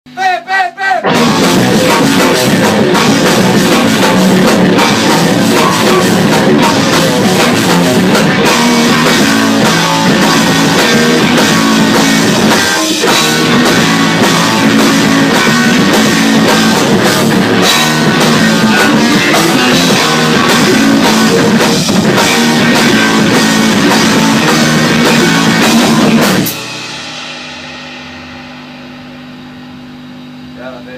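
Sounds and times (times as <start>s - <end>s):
rock music with drums and guitar: 1.0s - 30.9s.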